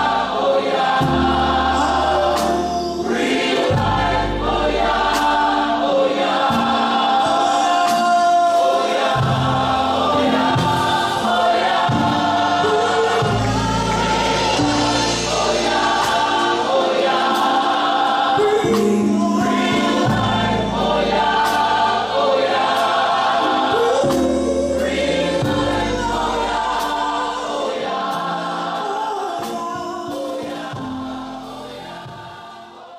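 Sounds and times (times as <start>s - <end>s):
choir singing praise song: 0.0s - 32.9s.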